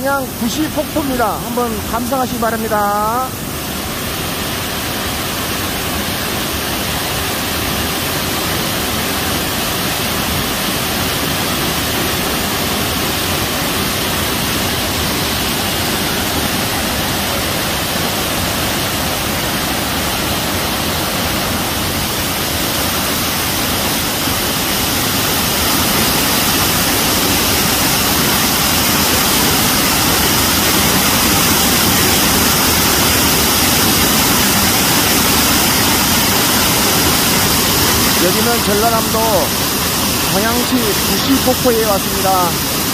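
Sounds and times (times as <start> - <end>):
waterfall pouring over rocks: 0.0 - 42.9.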